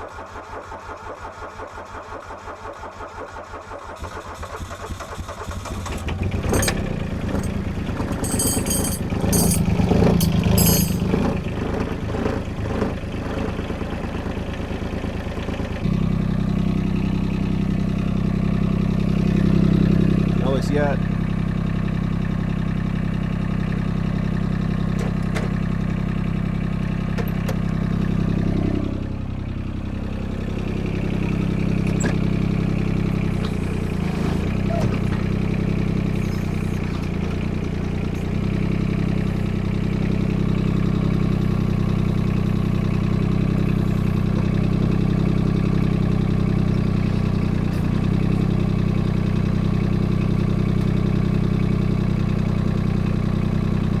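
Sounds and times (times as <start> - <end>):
diesel excavator engine running: 5.2 - 54.0.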